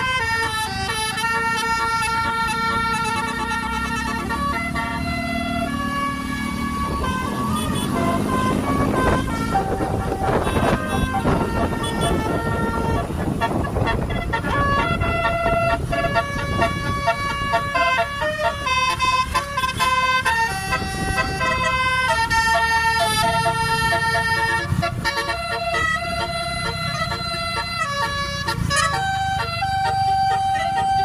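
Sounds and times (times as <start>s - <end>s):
bus musical horn playing a tune: 0.0s - 31.0s
low vehicle rumble: 0.0s - 31.0s.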